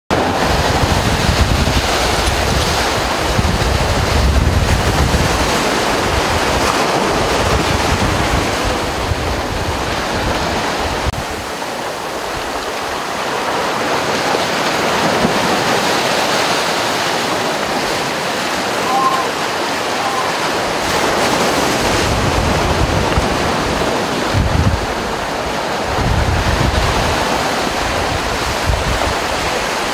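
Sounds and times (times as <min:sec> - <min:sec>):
surf washing over rocks: 0:00.1 - 0:29.9.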